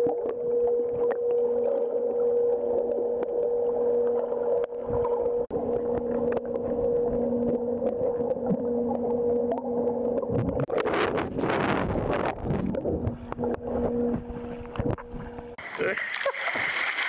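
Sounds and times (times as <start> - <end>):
faint clicks and sloshing: 0.0 - 15.6
underwater low hum: 0.0 - 17.0
water churning with bubbles: 0.0 - 17.0.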